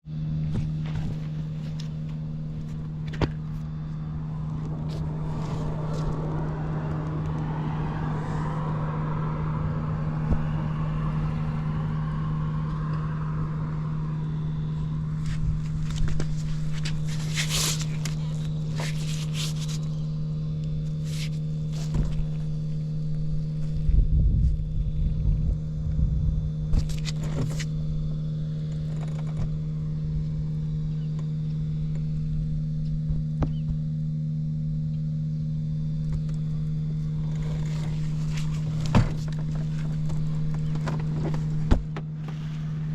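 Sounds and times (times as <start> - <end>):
scooter engine idling: 0.1 - 42.9.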